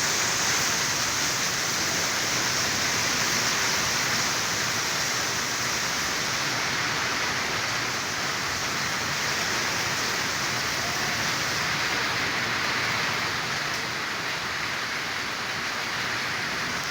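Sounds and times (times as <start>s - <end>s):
heavy rain hitting surfaces: 0.0s - 16.9s.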